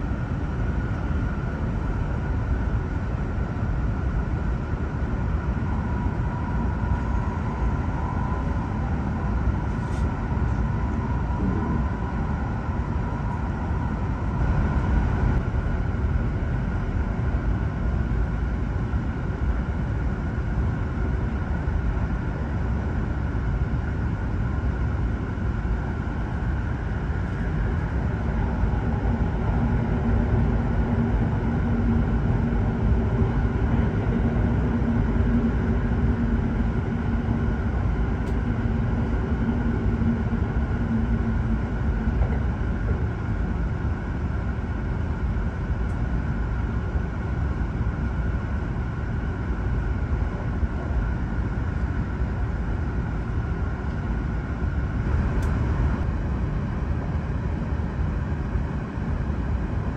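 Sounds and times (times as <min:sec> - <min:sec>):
steady hum: 0:00.0 - 0:59.9
train cabin low rumble: 0:00.0 - 0:59.9.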